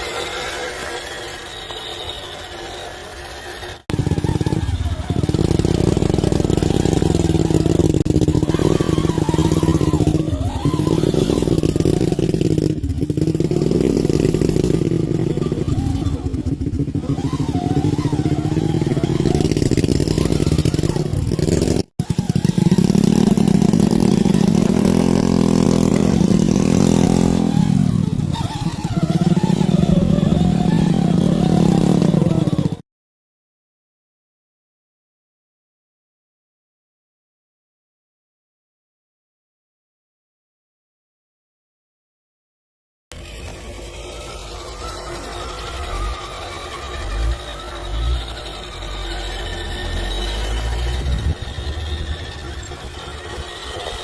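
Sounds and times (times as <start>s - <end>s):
toy car motor running: 0.0s - 32.8s, 43.1s - 54.0s.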